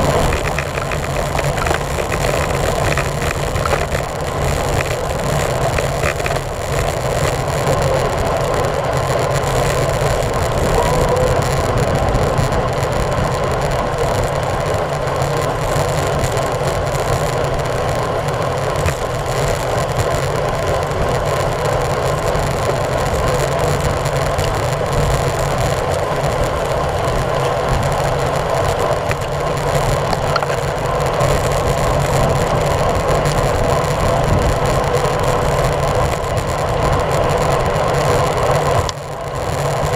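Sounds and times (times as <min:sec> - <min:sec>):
wind and road noise on bicycle: 0:00.0 - 0:39.9.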